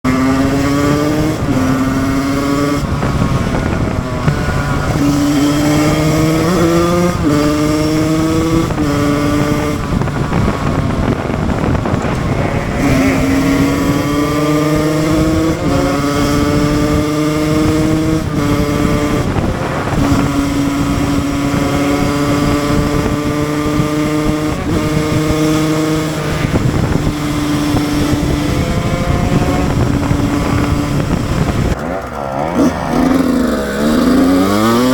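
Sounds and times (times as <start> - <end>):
two-stroke motorcycle engine accelerating: 0.0 - 34.9.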